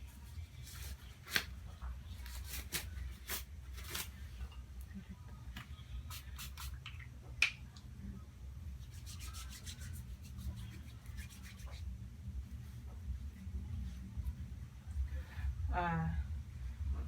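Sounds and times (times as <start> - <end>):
steady low hum: 2.9 - 17.0.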